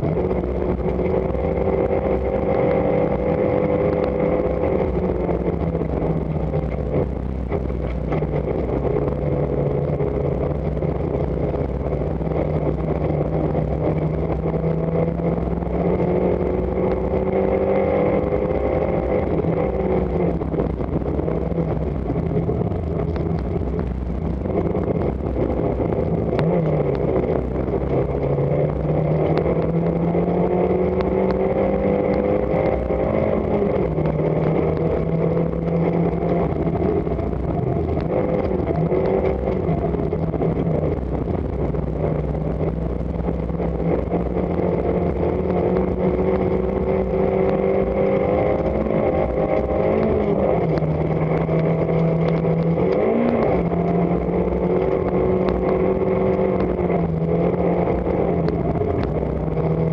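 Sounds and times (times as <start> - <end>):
rally car engine revving: 0.0 - 59.9
road and tyre noise: 0.0 - 59.9.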